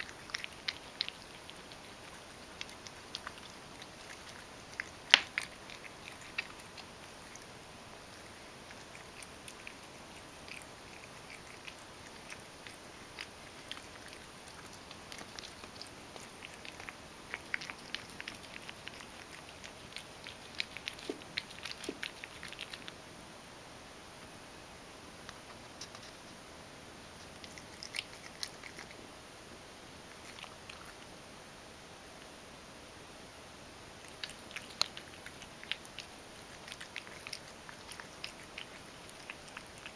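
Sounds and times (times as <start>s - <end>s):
cat chewing kibble: 0.0s - 23.0s, 27.0s - 29.1s, 30.0s - 31.1s, 33.9s - 39.9s.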